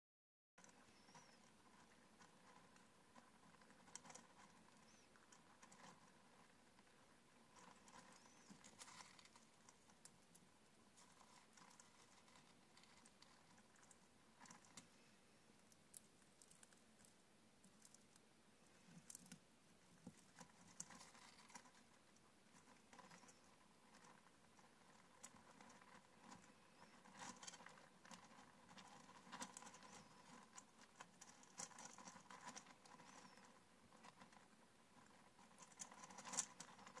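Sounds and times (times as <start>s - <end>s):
hamster crunching seeds: 0.6s - 37.0s.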